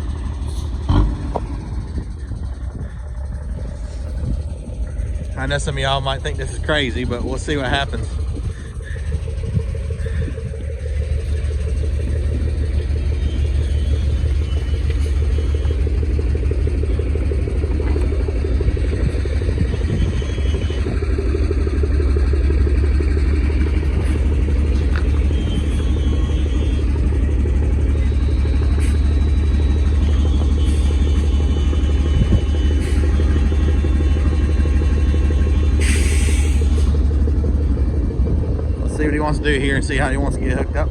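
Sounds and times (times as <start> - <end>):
heavy truck engine rumbling: 0.0 - 40.9.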